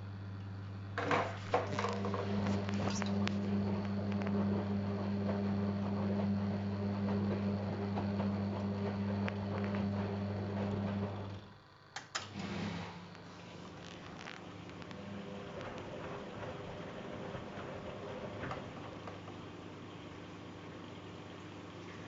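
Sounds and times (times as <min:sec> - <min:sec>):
quiet steady machine sound: 0:00.0 - 0:22.0
washer-dryer humming and rattling: 0:00.0 - 0:22.0.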